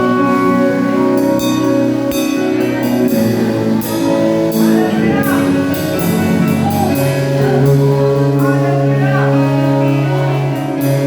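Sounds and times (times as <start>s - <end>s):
held worship chords: 0.0s - 11.0s.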